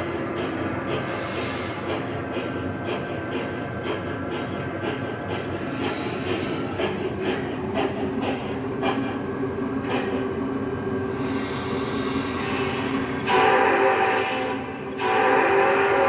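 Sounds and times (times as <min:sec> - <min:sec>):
train wheels clicking over rail joints: 0:00.0 - 0:13.2.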